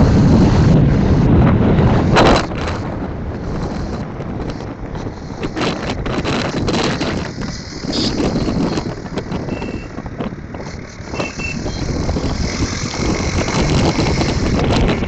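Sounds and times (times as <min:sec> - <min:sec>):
motorcycle engine running: 0:00.0 - 0:15.0
street traffic: 0:00.0 - 0:15.0
wind buffeting microphone: 0:00.0 - 0:15.0.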